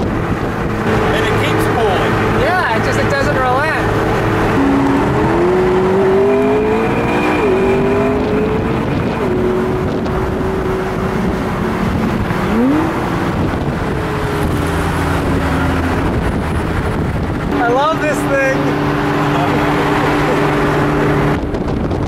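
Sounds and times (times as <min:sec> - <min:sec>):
car engine accelerating: 0:00.0 - 0:22.0
road and wind noise: 0:00.0 - 0:22.0.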